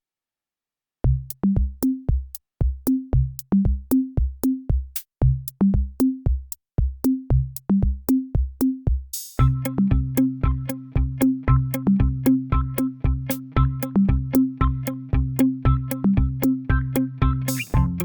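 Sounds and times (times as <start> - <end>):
electronic drum machine beat: 1.1 - 18.0.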